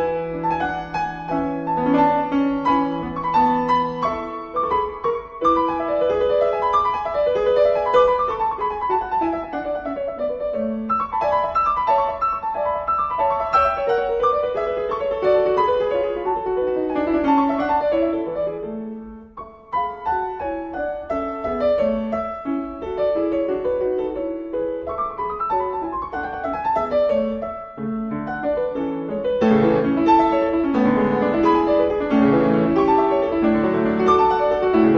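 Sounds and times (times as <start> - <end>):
piano music with quick runs: 0.0 - 34.9.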